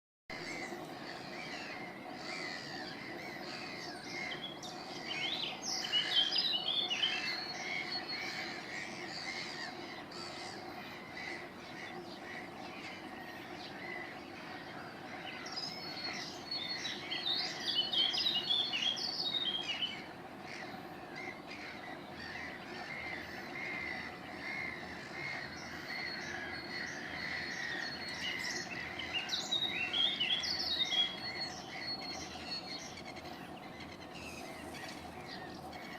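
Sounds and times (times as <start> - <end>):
birds singing and chirping: 0.3 - 35.9
steady low hum: 0.3 - 35.9.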